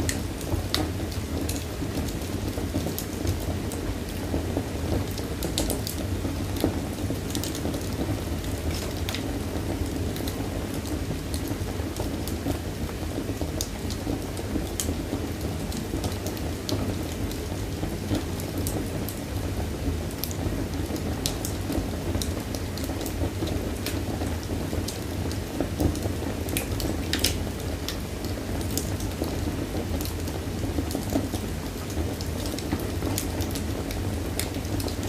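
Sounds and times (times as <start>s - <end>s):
burning wood crackles and pops: 0.0s - 35.0s
low roar of flames: 0.0s - 35.0s.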